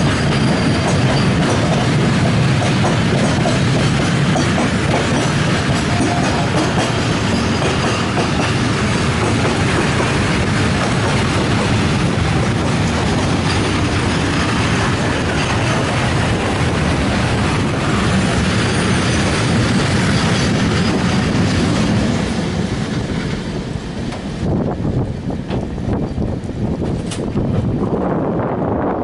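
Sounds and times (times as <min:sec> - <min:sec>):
train wheels rolling on rails: 0:00.0 - 0:29.0.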